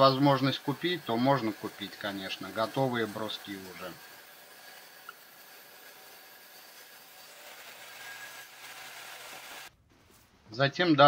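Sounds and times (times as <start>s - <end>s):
table saw ripping wood: 0.0s - 9.8s.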